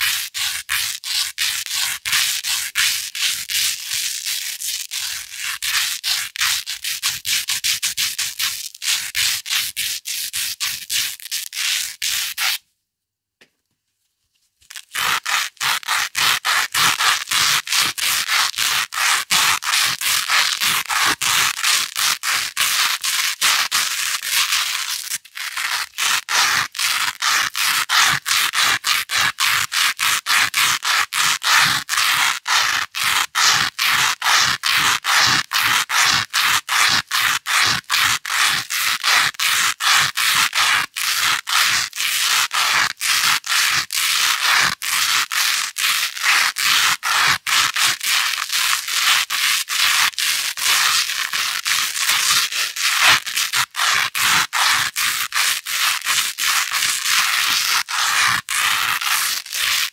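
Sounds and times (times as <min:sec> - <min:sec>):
velcro scratching against fabric: 0:00.0 - 0:12.7, 0:14.3 - 0:59.9.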